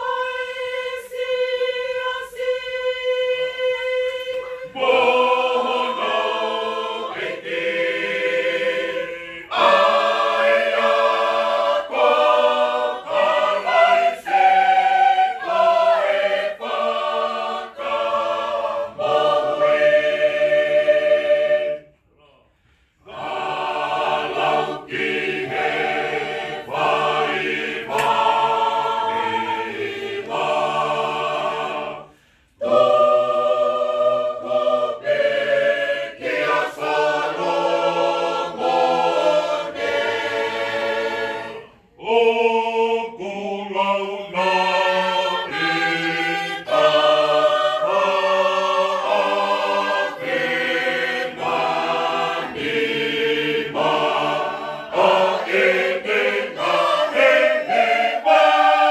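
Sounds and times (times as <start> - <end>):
mixed choir singing a hymn: 0.0 - 58.9.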